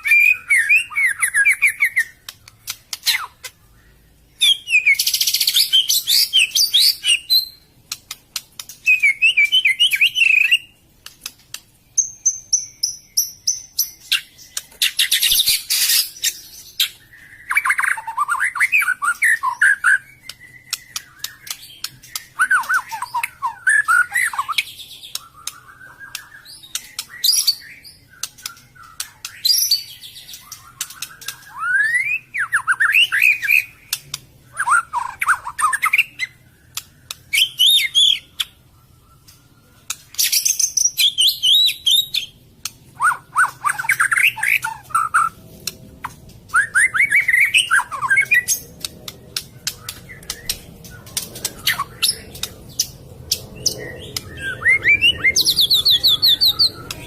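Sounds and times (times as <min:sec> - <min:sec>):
bird singing whistled phrases: 0:00.0 - 0:02.3, 0:03.0 - 0:07.7, 0:08.8 - 0:10.8, 0:12.0 - 0:33.9, 0:34.5 - 0:42.4, 0:43.0 - 0:45.4, 0:46.5 - 0:48.6, 0:53.6 - 0:57.0
sharp bird clicks: 0:00.0 - 0:03.7, 0:04.4 - 0:38.6, 0:39.2 - 0:57.0.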